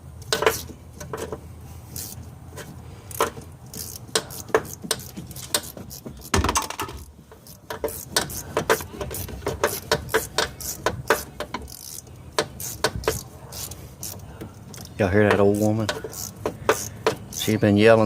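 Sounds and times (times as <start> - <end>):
wrench clicking: 0.2 - 1.3, 1.9 - 17.6.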